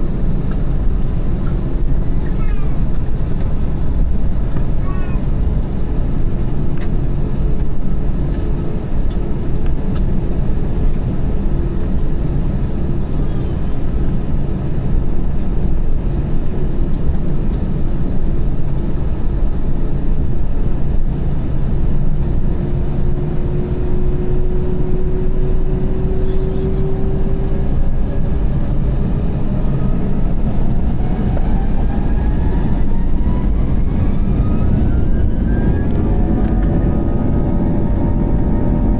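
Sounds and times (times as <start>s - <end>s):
airplane cabin rumble: 0.0s - 38.9s
jet engines whining: 0.0s - 38.9s.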